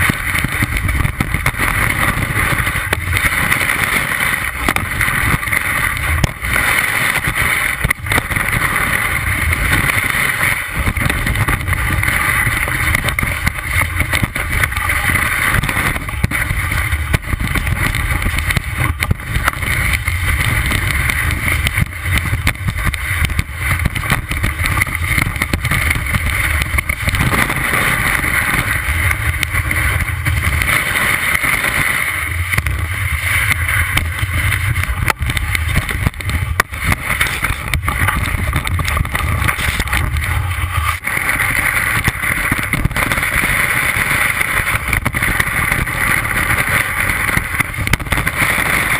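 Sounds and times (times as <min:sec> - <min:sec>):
skis rushing through snow: 0:00.0 - 0:48.9
snow ticking on camera: 0:00.0 - 0:48.9.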